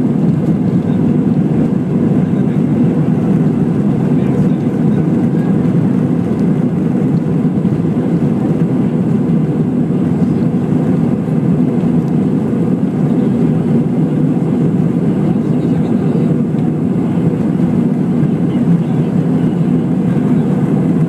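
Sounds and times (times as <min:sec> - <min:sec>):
airliner engine rumble in cabin: 0:00.0 - 0:21.0.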